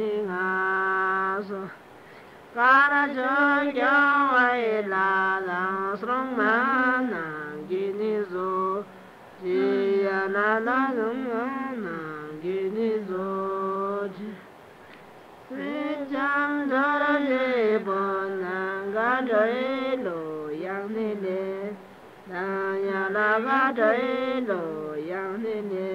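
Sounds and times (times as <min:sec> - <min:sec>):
person singing chant-like song: 0:00.0 - 0:01.8, 0:02.5 - 0:14.5, 0:15.5 - 0:25.9.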